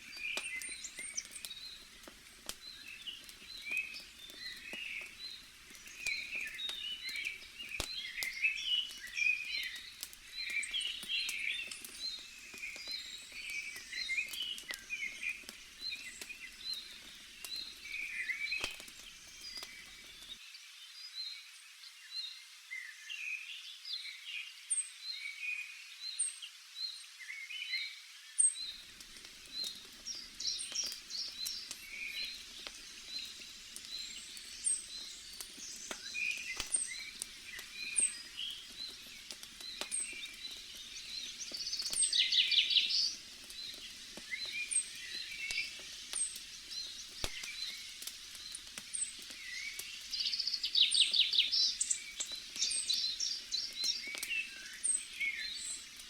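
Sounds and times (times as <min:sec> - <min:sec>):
campfire crackling: 0:00.0 - 0:20.4, 0:28.4 - 0:56.0
small birds chirping: 0:00.0 - 0:21.4, 0:26.0 - 0:56.0.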